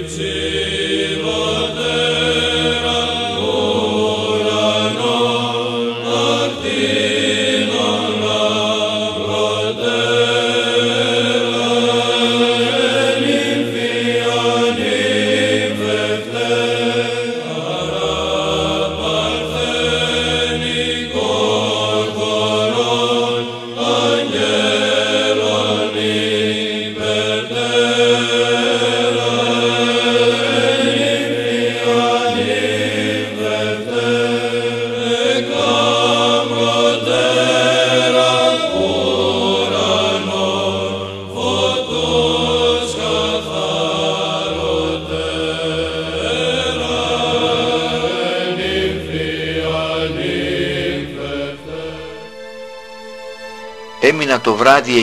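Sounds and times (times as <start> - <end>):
voices chanting slow melody: 0.0 - 55.0.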